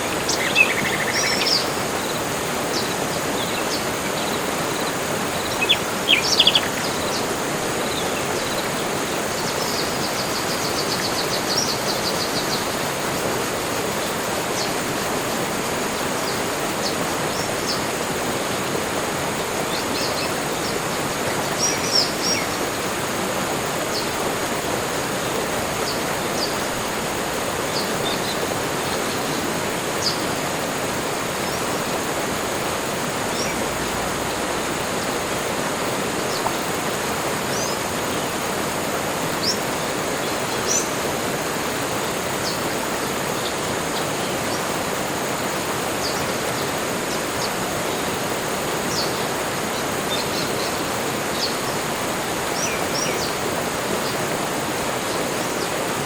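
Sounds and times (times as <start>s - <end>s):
rushing water noise: 0.0s - 56.0s.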